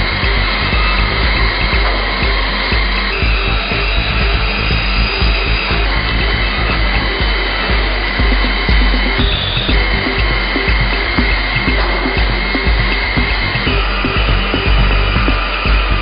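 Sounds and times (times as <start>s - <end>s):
high machine whine: 0.0s - 16.0s
milling machine motor noise: 0.0s - 16.0s.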